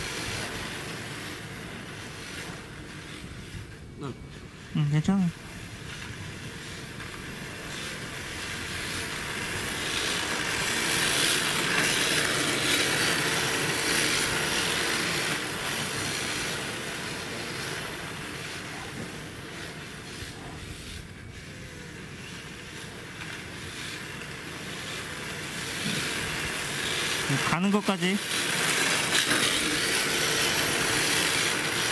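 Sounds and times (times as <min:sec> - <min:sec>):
plastic tyres scrubbing on asphalt: 0:00.0 - 0:03.8, 0:04.4 - 0:31.9.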